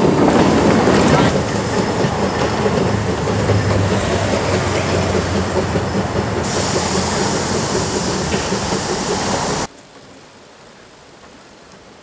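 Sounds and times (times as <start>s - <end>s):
steam hiss: 0.0s - 9.7s
train wagons rattling over rails: 0.0s - 9.7s.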